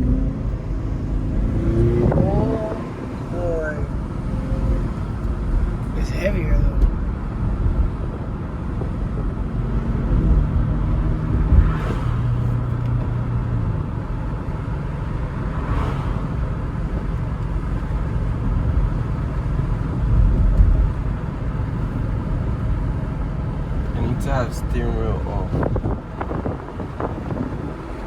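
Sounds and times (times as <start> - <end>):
car engine running: 0.0 - 28.0
road noise rumble: 0.0 - 28.0.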